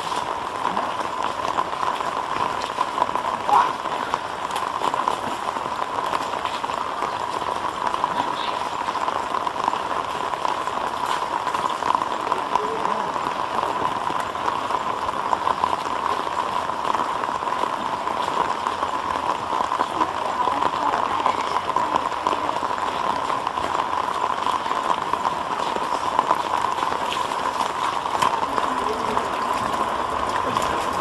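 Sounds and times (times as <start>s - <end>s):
rain falling on puddles: 0.0s - 31.0s.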